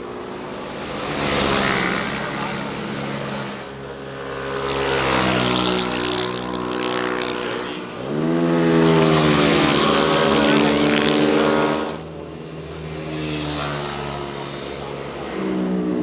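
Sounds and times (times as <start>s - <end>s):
motorcycle engines passing: 0.0s - 16.0s.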